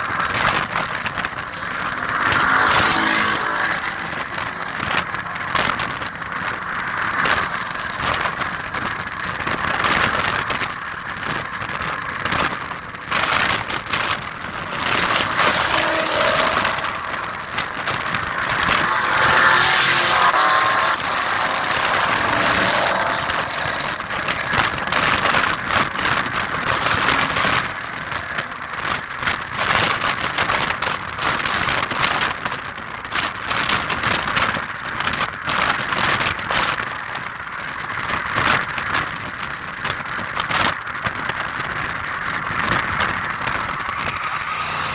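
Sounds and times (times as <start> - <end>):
cars passing by: 0.0 - 44.9.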